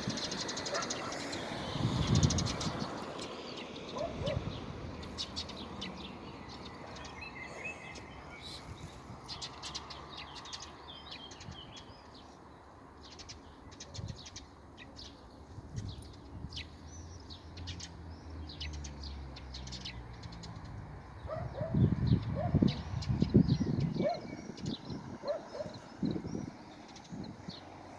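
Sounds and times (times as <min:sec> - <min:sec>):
outdoor background noise: 0:00.0 - 0:27.9
songbirds chirping: 0:00.0 - 0:27.9.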